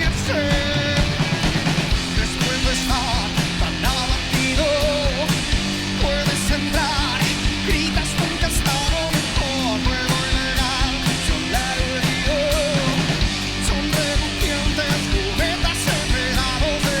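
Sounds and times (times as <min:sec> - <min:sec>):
bass guitar: 0:00.0 - 0:17.0
distorted electric guitars: 0:00.0 - 0:17.0
drum kit beat: 0:00.0 - 0:17.0
person singing: 0:00.0 - 0:17.0.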